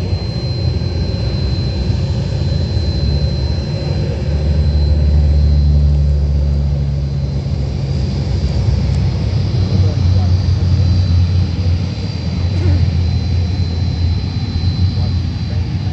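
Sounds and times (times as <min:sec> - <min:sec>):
turboprop engines droning: 0:00.0 - 0:15.9.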